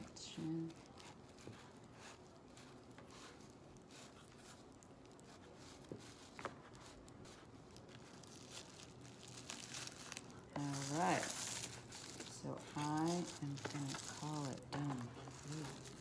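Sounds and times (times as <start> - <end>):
plastic foil rustling and scratching: 0.0 - 16.0.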